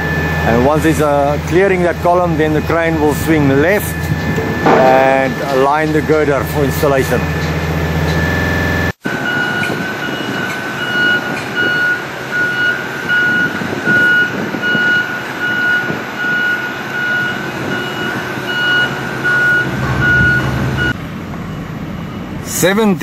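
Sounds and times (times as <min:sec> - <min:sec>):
low engine rumble: 0:00.0 - 0:23.0
reversing alarm beeping: 0:00.0 - 0:23.0.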